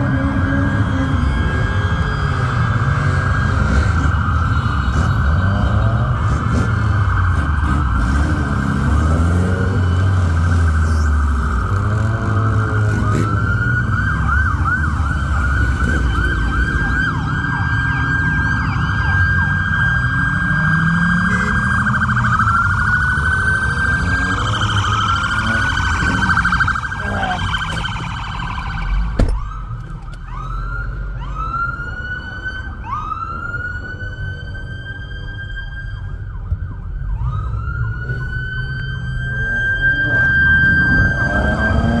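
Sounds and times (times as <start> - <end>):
emergency vehicle sirens: 0.0 - 42.0.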